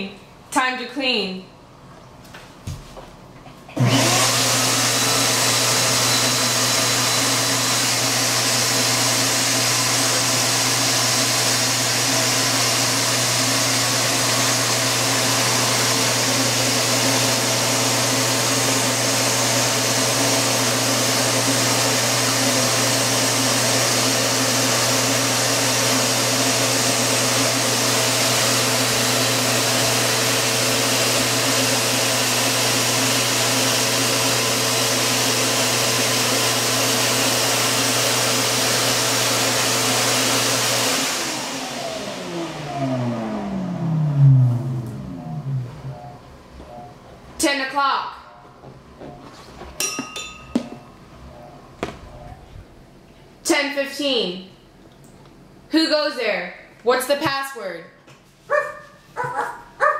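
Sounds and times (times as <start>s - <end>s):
vacuum cleaner running: 3.7s - 49.8s, 50.5s - 52.9s.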